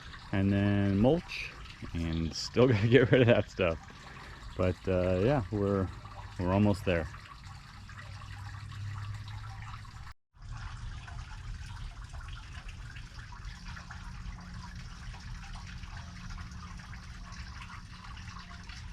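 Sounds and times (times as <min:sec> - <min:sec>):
garden fountain trickling and splashing: 0:00.0 - 0:18.9.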